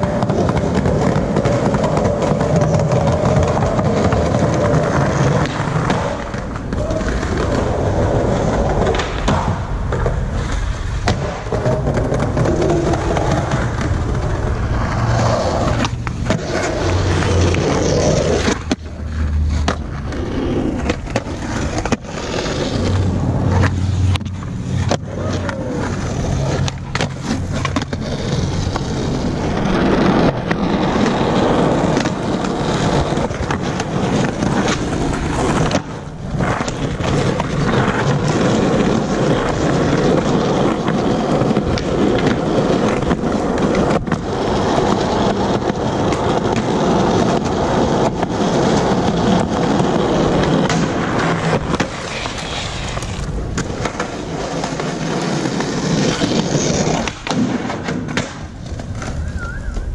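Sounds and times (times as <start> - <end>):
skateboard clacking down: 0.0 - 59.9
skateboard wheels rolling on concrete: 0.0 - 59.9.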